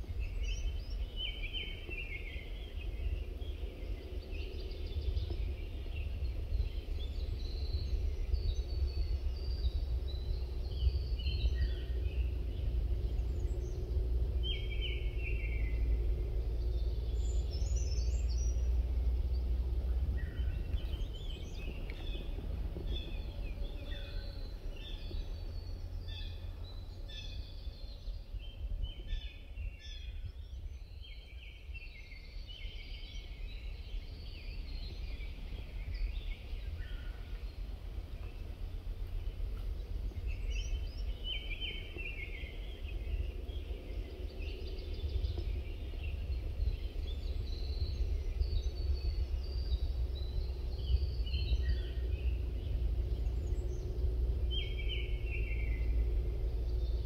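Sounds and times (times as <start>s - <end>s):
birds chirping and singing: 0.0s - 57.0s
steady low rumble: 0.0s - 57.0s.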